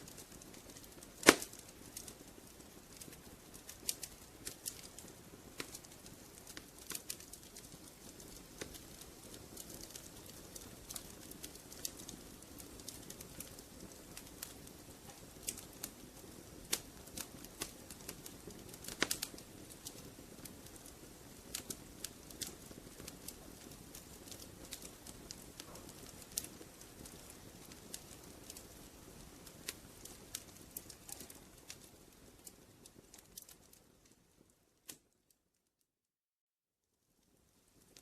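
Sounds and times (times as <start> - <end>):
wood fire crackling: 0.0 - 35.4, 37.2 - 38.0.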